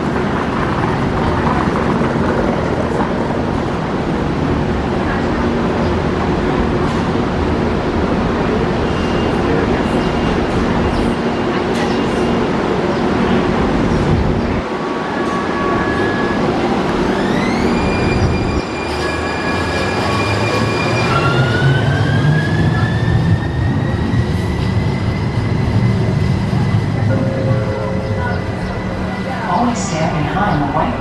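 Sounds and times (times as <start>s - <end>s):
train wheel and motor rumble: 0.0s - 31.0s.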